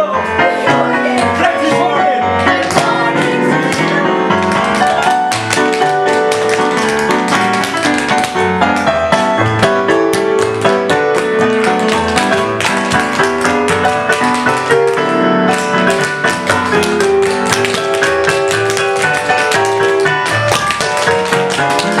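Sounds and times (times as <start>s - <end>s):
piano show music: 0.0s - 22.0s
tap-dance steps: 2.4s - 22.0s.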